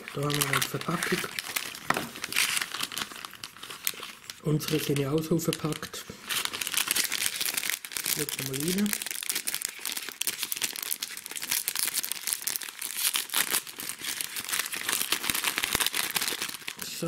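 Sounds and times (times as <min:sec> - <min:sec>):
foil pouch crinkling and tearing: 0:00.0 - 0:17.0.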